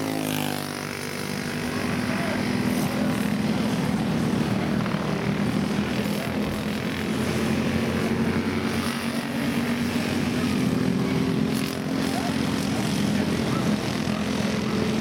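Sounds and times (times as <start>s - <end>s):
racing kart engines droning: 0.0s - 15.0s.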